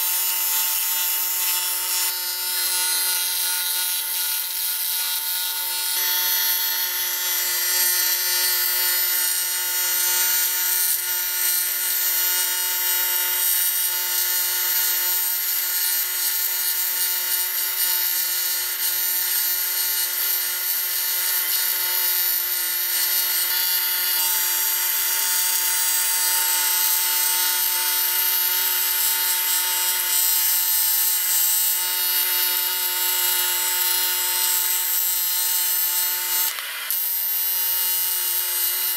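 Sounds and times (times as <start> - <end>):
welding arc buzzing and hissing: 0.0 - 38.9.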